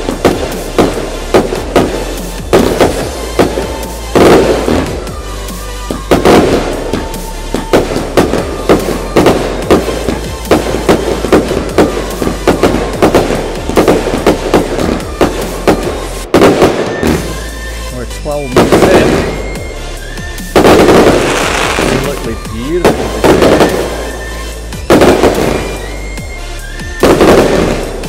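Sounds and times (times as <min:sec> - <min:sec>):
fireworks bursting and crackling: 0:00.0 - 0:28.0
music playing: 0:00.0 - 0:28.0.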